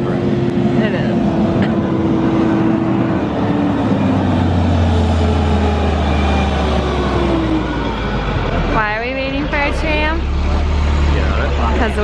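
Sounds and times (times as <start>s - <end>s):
large vehicle engine drone: 0.0s - 12.0s.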